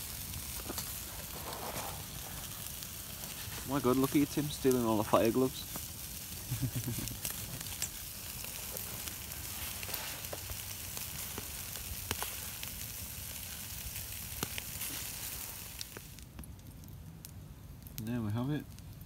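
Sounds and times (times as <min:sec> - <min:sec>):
food sizzling on grill: 0:00.0 - 0:16.2.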